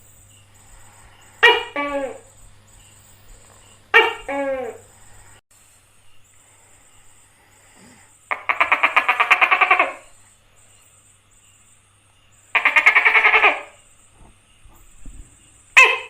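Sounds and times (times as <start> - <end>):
gecko calling: 0.2 - 5.4, 6.4 - 16.0.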